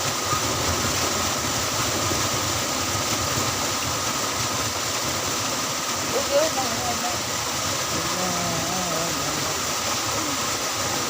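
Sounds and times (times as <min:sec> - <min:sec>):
pump engine running: 0:00.0 - 0:11.0
water rushing: 0:00.0 - 0:11.0.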